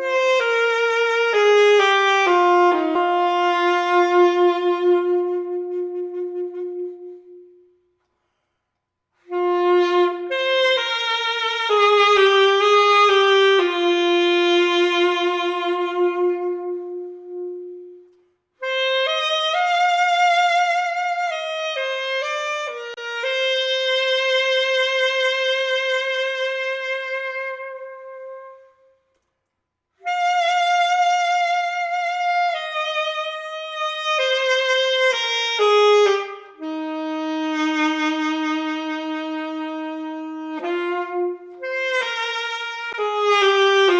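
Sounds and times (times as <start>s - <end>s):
solo saxophone melody: 0.0s - 8.6s, 9.2s - 29.3s, 29.9s - 43.9s.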